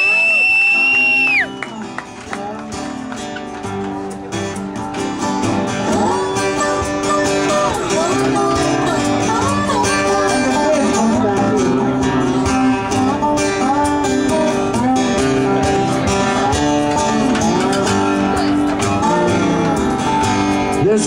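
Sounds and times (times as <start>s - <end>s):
bending guitar lead line: 0.0s - 21.0s
strummed acoustic guitar: 0.0s - 21.0s.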